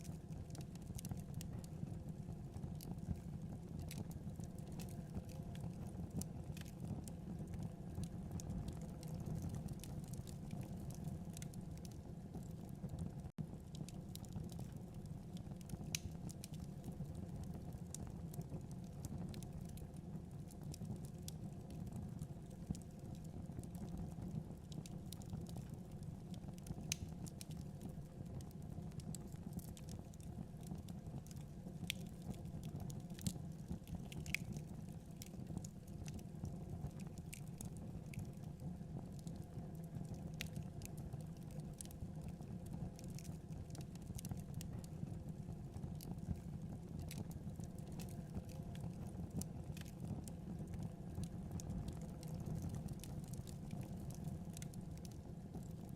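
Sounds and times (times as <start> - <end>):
fire crackles and pops: 0.0 - 55.9
low rumble of flames: 0.0 - 55.9.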